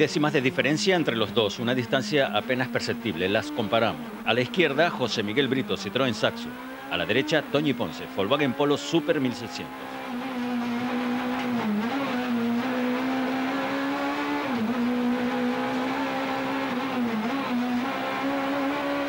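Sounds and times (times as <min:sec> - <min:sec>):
rally car engine at high revs: 0:00.0 - 0:19.0.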